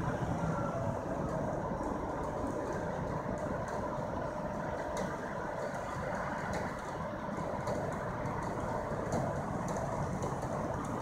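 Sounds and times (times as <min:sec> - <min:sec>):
constant whine: 0:00.0 - 0:11.0
heavy diesel engines rumbling: 0:00.0 - 0:11.0.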